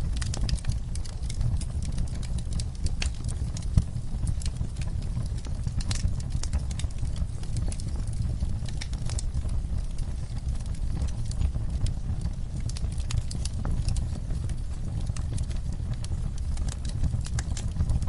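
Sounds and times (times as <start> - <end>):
fire crackling: 0.0 - 18.0
low rumble of flames: 0.0 - 18.0.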